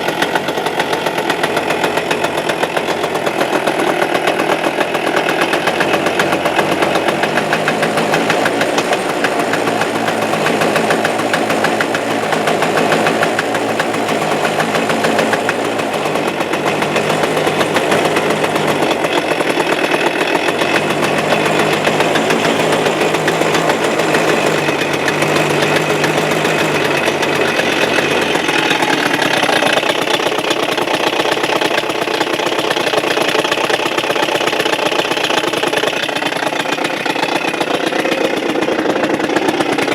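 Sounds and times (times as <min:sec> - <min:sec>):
rattling knock in engine: 0:00.0 - 0:39.9
scooter engine running: 0:00.0 - 0:39.9.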